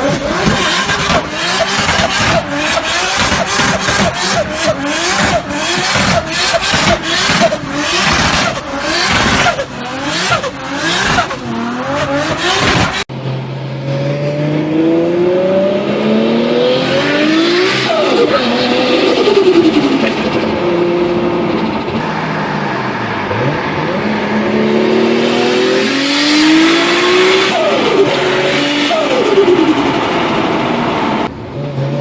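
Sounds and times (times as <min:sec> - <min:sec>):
car engine accelerating: 0:00.0 - 0:32.0
car engine revving: 0:00.0 - 0:32.0.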